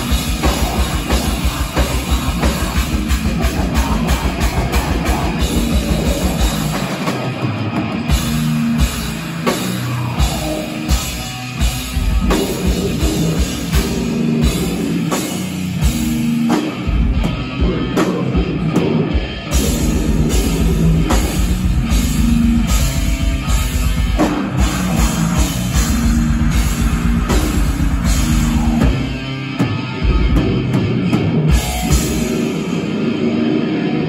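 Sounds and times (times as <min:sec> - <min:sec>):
bass guitar: 0:00.0 - 0:34.0
distorted electric guitar: 0:00.0 - 0:34.0
metal band playing live: 0:00.0 - 0:34.0.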